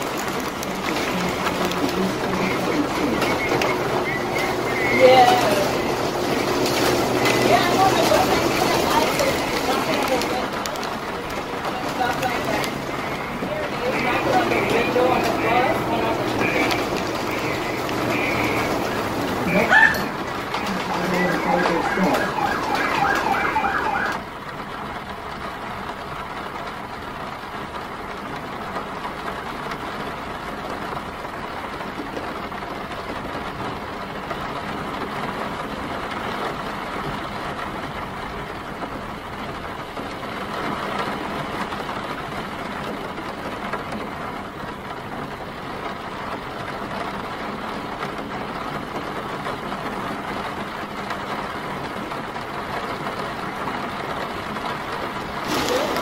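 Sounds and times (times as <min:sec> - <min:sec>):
rain hiss: 0:00.0 - 0:56.0
vehicle engines idling: 0:00.0 - 0:56.0.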